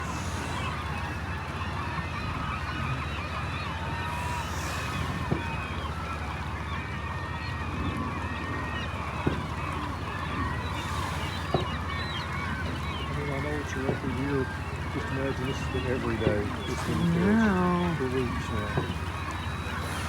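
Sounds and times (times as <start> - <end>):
flock of birds honking: 0.0 - 20.0.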